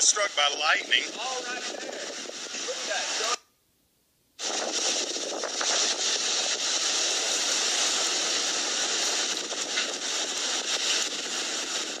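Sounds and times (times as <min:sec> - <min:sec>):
storm wind rushing: 0:00.0 - 0:03.4, 0:04.4 - 0:12.0.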